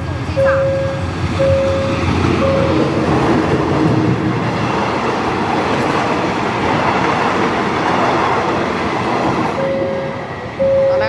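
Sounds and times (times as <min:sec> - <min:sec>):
train wheels rumbling over rails: 0:00.0 - 0:11.0.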